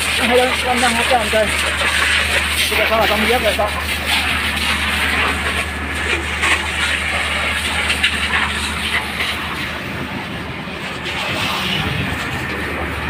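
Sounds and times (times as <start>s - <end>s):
fire engine low drone: 0.0s - 13.0s.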